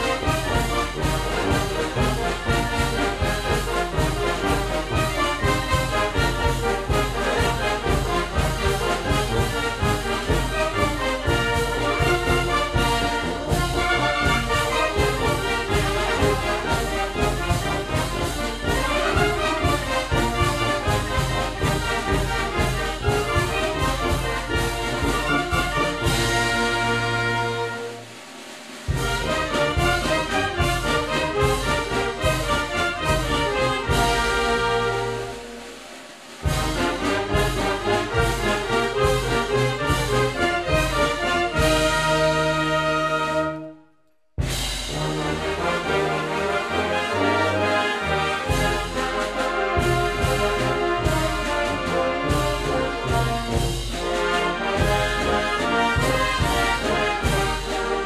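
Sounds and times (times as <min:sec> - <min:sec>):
brass wind band playing: 0:00.0 - 0:58.0.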